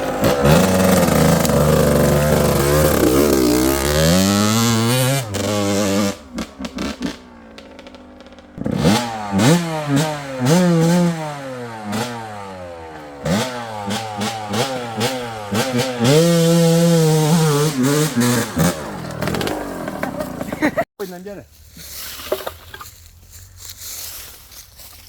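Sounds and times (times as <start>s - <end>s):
two-stroke engine revving: 0.0s - 20.9s.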